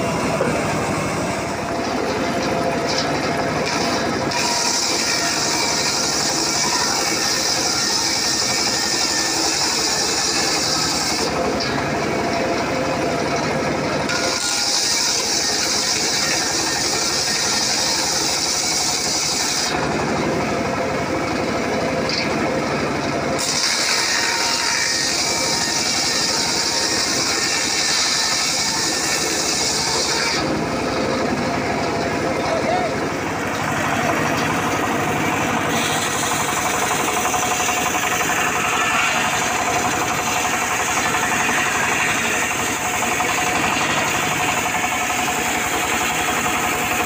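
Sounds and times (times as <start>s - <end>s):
saw blade cutting wood: 0.0s - 20.5s, 21.3s - 47.0s
table saw running: 0.0s - 47.0s.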